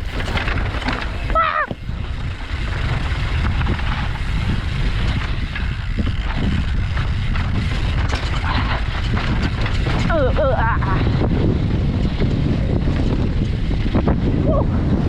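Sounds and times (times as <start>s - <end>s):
bike knocks and rattles: 0.0s - 15.0s
tyres rolling over rocky dirt: 0.0s - 15.0s
wind buffeting microphone: 0.0s - 15.0s.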